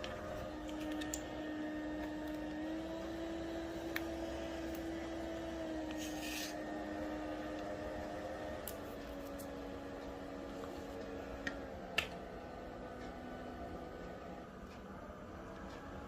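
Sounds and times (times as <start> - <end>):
electric fan motor humming: 0.0 - 16.0.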